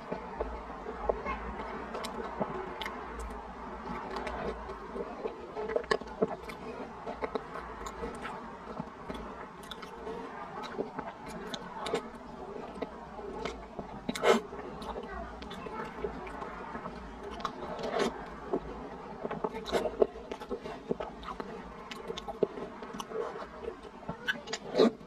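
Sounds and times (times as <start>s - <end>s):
sticky food being chewed: 0.0s - 25.0s.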